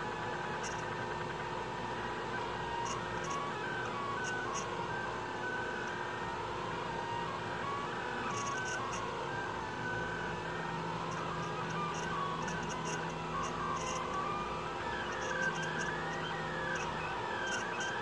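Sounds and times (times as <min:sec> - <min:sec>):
steady hum: 0:00.0 - 0:18.0
stepper motors whining: 0:02.6 - 0:18.0.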